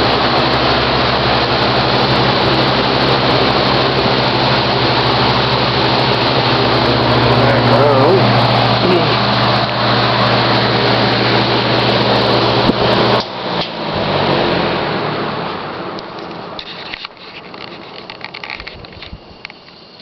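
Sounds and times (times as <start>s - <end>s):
box fan motor hum: 0.0s - 20.0s.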